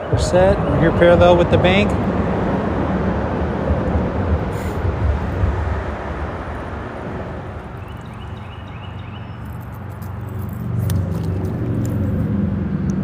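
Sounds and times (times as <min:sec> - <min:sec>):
steady traffic hum: 0:00.0 - 0:13.0
vehicle low rumble: 0:00.0 - 0:13.0.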